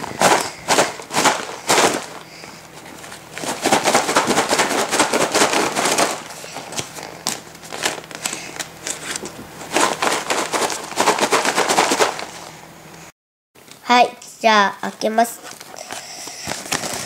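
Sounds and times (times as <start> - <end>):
paper bag crinkling: 0.0 - 12.5, 15.4 - 17.0
popcorn rattling in paper bag: 0.0 - 12.5, 15.0 - 17.0.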